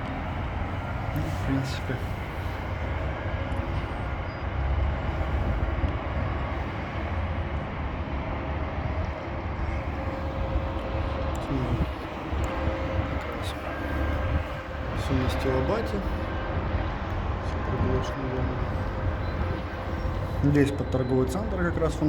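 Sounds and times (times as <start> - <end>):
city noise rumble with hiss: 0.0 - 22.0.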